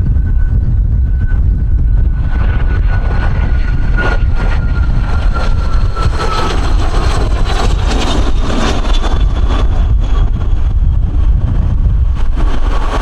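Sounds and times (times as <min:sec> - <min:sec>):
aircraft engine whine: 0:00.0 - 0:13.0
wind buffeting microphone: 0:00.0 - 0:13.0.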